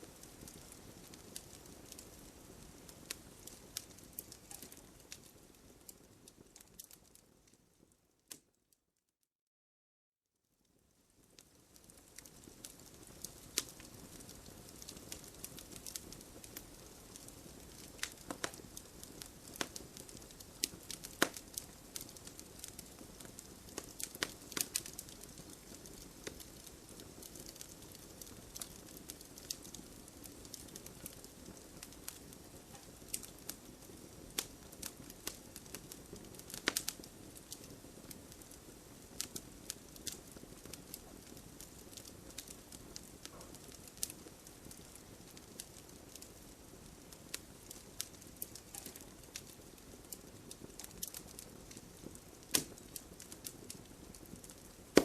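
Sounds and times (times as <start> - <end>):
fireplace fire crackling: 0.0 - 8.7, 10.6 - 55.0.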